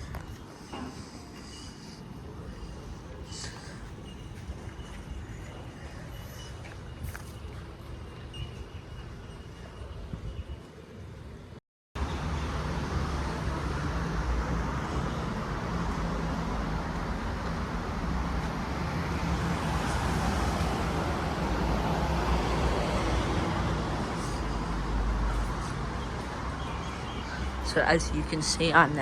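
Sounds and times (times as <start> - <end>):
vehicle rumble: 0.0 - 29.0.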